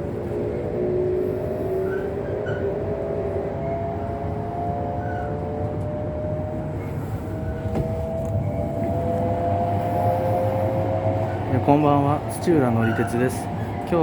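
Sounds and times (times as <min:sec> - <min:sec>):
high-speed train rumble and whine: 0:00.0 - 0:14.0.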